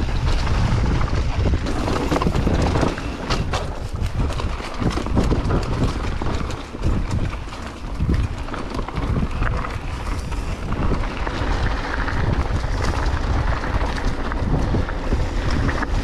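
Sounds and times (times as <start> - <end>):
bike knocking and rattling: 0.0 - 16.0
tyres rumbling on dirt: 0.0 - 16.0
wind buffeting microphone: 0.0 - 16.0.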